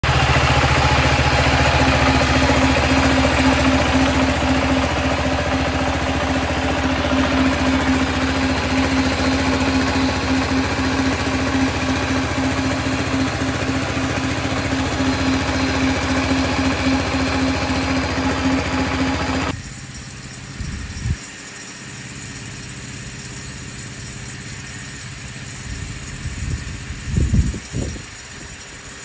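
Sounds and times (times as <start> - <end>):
small engine running: 0.0 - 29.0
sprinkler spraying water: 0.0 - 29.0.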